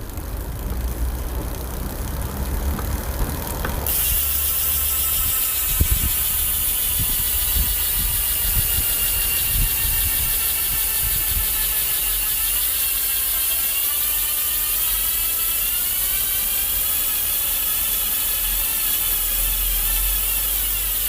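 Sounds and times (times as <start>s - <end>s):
bicycle hub ticking: 0.0s - 21.0s.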